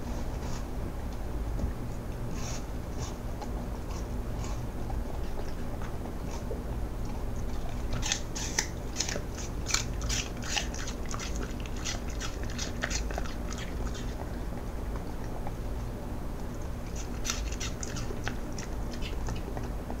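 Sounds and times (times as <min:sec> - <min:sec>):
dog crunching apple: 0:02.2 - 0:20.0.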